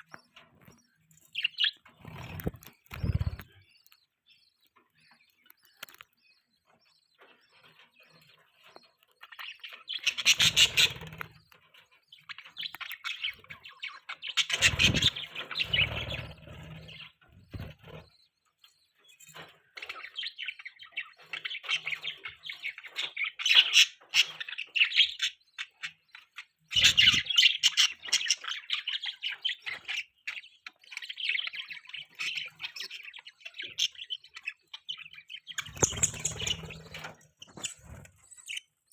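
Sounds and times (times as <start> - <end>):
budgies chirping and chattering: 0.0 - 38.9.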